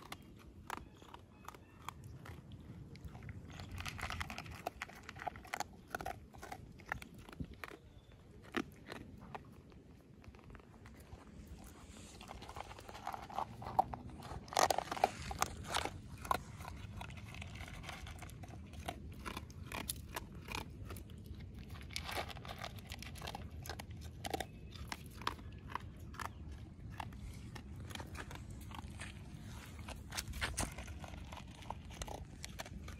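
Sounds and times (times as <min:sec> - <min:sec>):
dog chewing dry kibble: 0:00.0 - 0:32.9.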